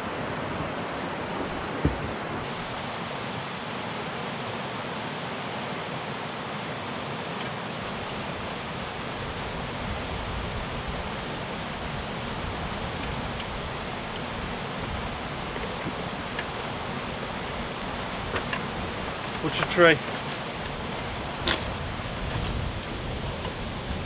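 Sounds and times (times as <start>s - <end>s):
river rapid rushing over rocks: 0.0s - 24.0s.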